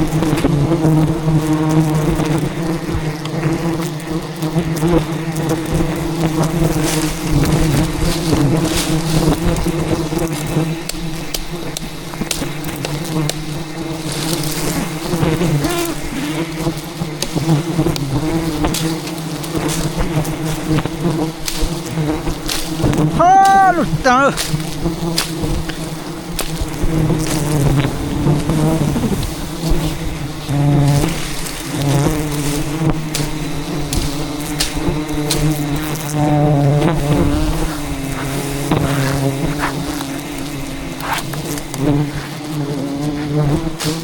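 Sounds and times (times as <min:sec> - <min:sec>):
bees buzzing loudly: 0:00.0 - 0:23.0, 0:23.9 - 0:44.0.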